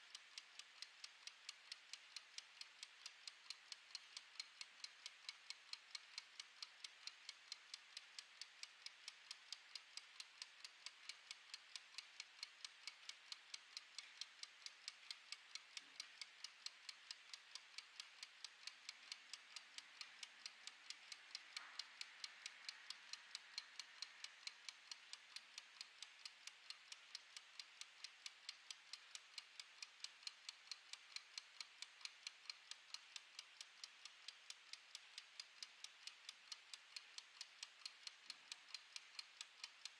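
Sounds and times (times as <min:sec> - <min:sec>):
kitchen timer ticking: 0:00.0 - 0:39.9.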